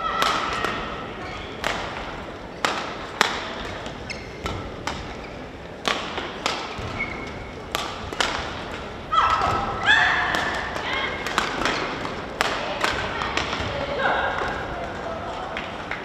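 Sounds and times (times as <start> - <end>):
racket hitting shuttlecock: 0.0 - 14.7.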